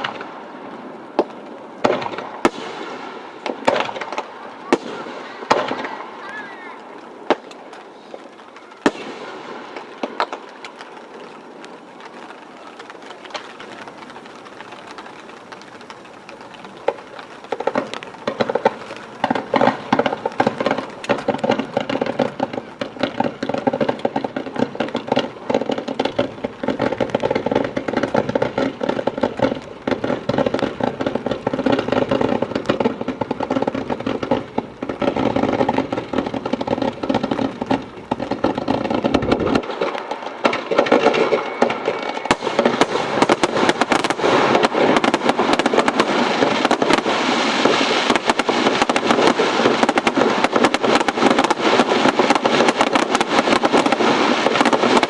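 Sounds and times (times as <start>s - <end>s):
firework bang: 0.0s - 7.7s, 13.3s - 55.0s
firework pops: 0.0s - 55.0s
fireworks crackling and bursting: 0.0s - 55.0s.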